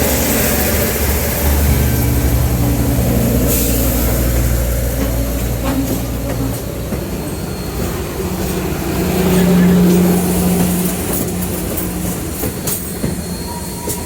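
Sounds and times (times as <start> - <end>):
train clanks: 0.0 - 14.0
train engine drone: 0.0 - 14.0.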